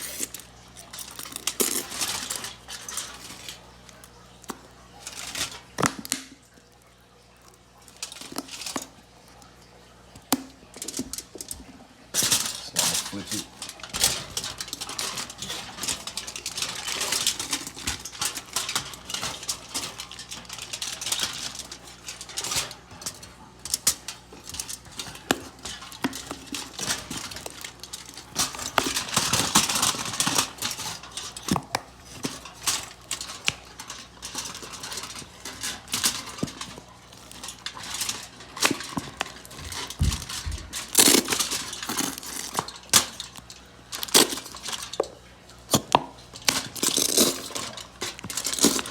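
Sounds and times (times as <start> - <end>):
utensils and dishes clinking: 0.0 - 6.6, 10.1 - 48.9.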